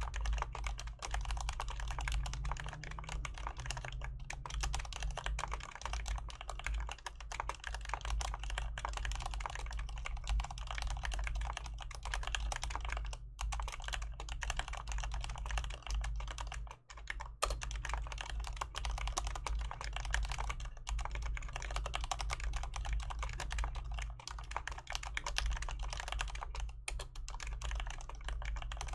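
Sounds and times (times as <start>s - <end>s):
fast keyboard typing: 0.0s - 28.9s
steady low hum: 0.0s - 28.9s.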